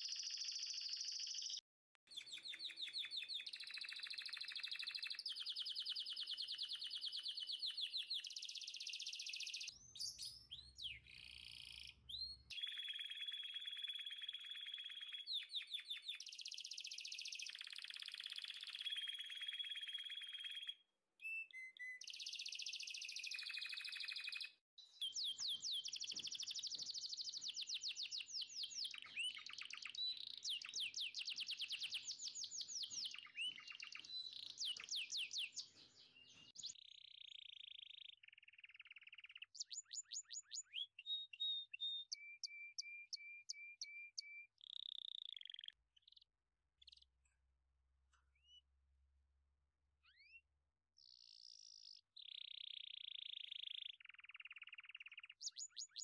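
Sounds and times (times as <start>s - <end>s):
songbirds trilling and chirping: 0.0s - 20.8s, 21.4s - 47.4s, 51.0s - 56.0s.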